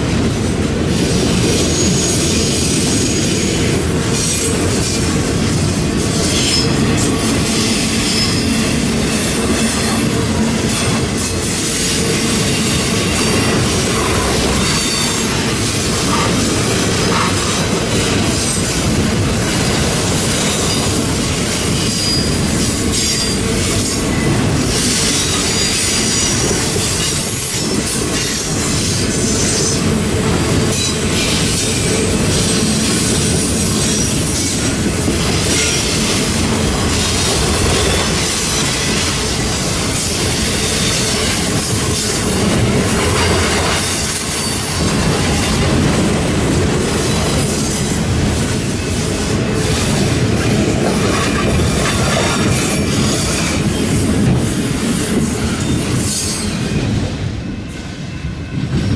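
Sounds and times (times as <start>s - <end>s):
freight train wheels rushing: 0.0s - 58.9s.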